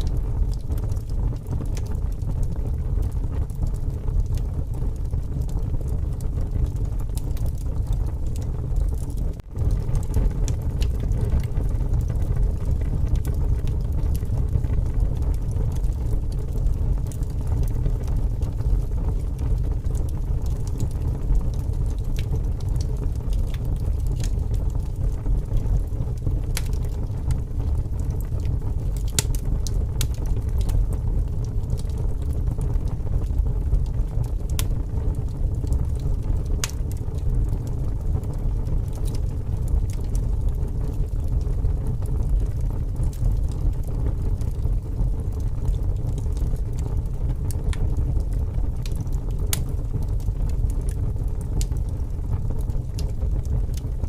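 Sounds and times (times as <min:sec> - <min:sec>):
strong wind rumble: 0:00.0 - 0:50.3
campfire crackling and popping: 0:00.0 - 0:54.0.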